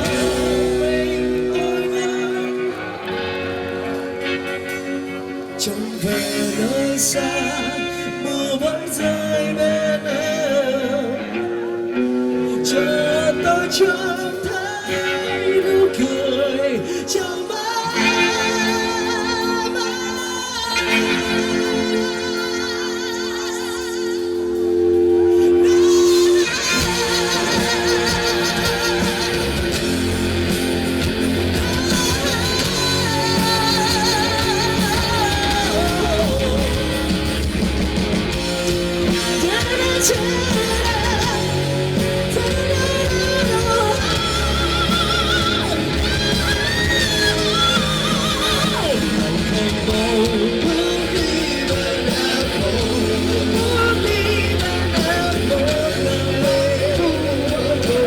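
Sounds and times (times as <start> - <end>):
wavering sustained lead line: 0.0 - 55.5
bass guitar: 0.0 - 58.0
drums: 0.0 - 58.0.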